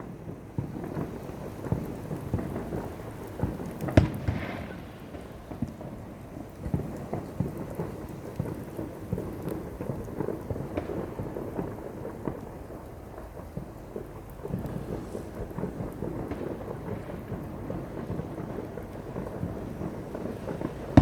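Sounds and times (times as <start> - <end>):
fireworks thumps and crackles: 0.0 - 21.0.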